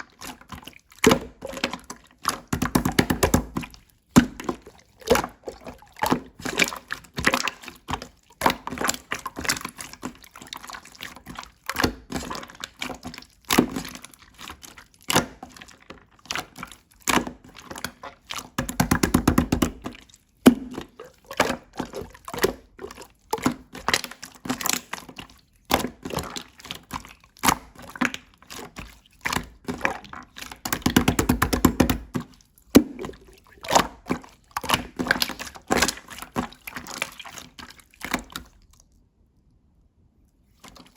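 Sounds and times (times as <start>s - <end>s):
slime squished by hand: 0.0s - 38.9s.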